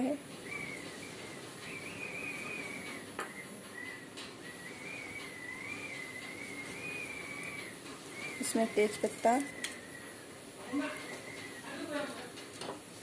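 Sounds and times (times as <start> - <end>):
faint high whistling tone: 0.0 - 12.0.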